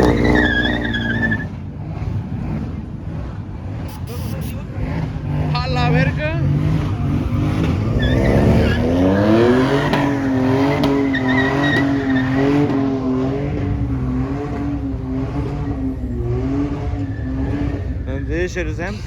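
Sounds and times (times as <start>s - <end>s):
vehicle engine revving hard: 0.0s - 18.5s.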